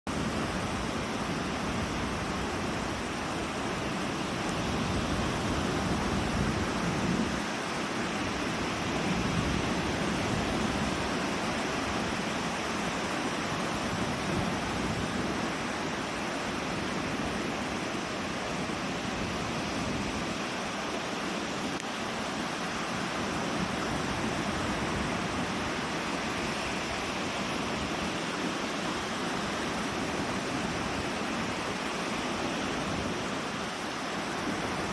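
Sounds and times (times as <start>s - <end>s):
lake surf: 0.1s - 34.9s
rain: 0.1s - 34.9s
wind buffeting microphone: 0.1s - 34.9s.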